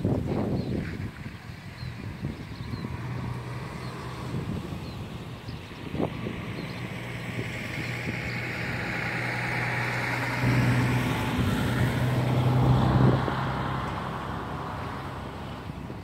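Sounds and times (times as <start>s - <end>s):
vehicle passing: 1.2s - 16.0s.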